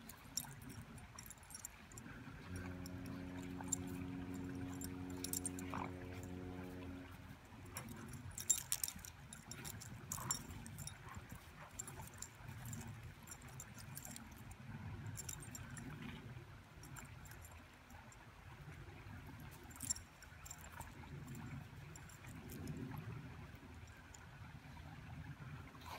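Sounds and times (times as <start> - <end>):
collar metal jingling: 0.0 - 17.6, 19.4 - 22.9.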